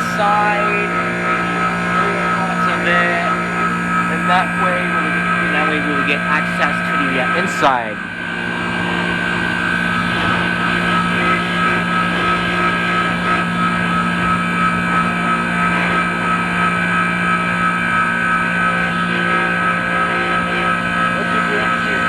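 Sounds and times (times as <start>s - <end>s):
high steady tones: 0.0s - 22.0s
ice machine humming: 0.0s - 22.0s.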